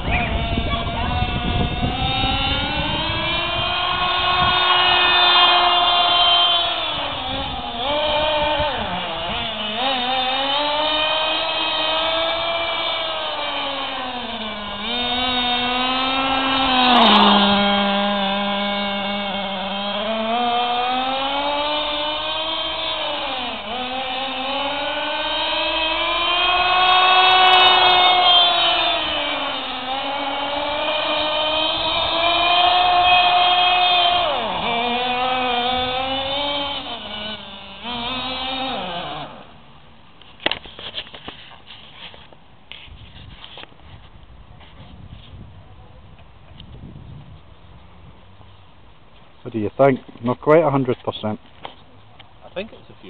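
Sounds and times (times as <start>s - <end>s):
small engine whining: 0.0s - 53.0s.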